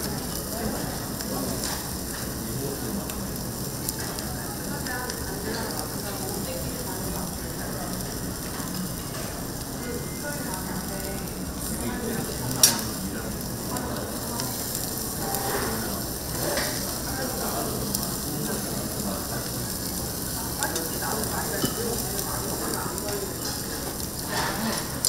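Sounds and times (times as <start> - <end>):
ribs sizzling on grill: 0.0 - 25.0.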